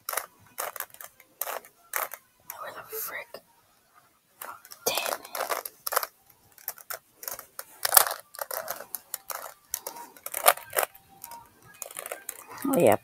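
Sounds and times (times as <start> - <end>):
puzzle cube clicking and rattling: 0.0 - 2.8, 4.4 - 13.0.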